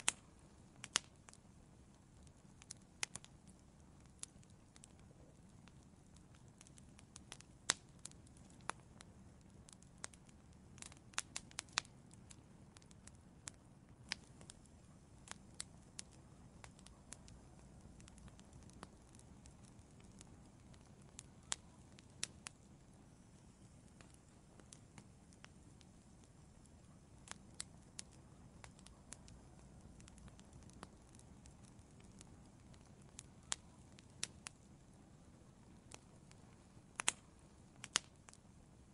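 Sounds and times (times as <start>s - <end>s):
low rumble of burning: 0.0s - 38.9s
wood fire crackling and popping: 0.0s - 38.9s.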